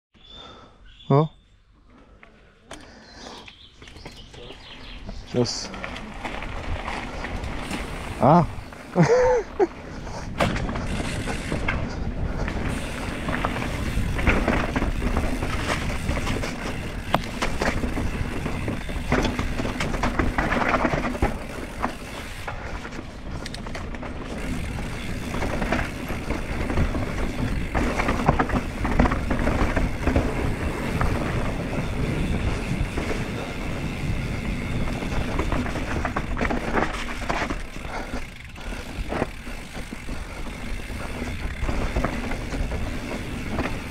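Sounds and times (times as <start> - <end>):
bike knocking and rattling: 3.6 - 43.9.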